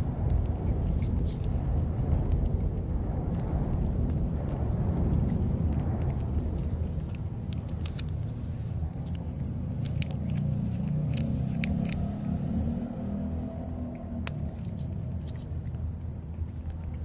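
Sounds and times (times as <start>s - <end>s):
cat licking and eating: 0.0s - 17.0s
steady low rumble: 0.0s - 17.0s.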